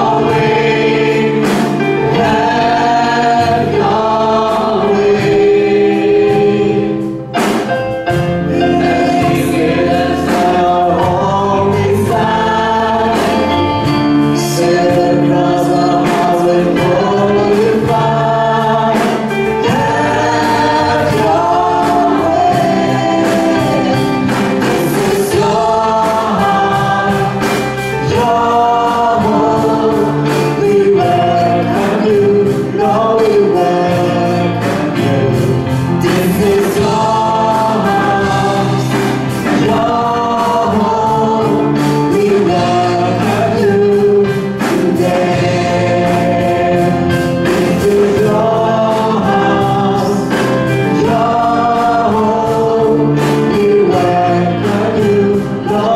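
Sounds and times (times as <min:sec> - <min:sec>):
group singing worship song: 0:00.0 - 0:55.9
live band playing: 0:00.0 - 0:55.9.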